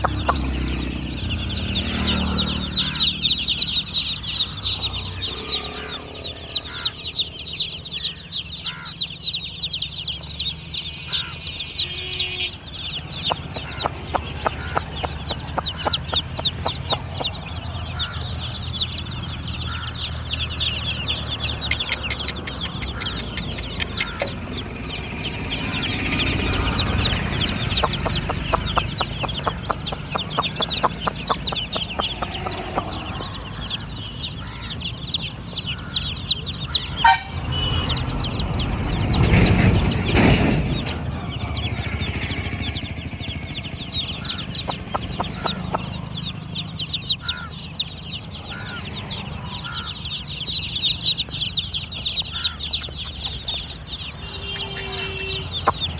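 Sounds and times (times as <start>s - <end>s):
baby chicks cheeping: 0.0s - 55.9s.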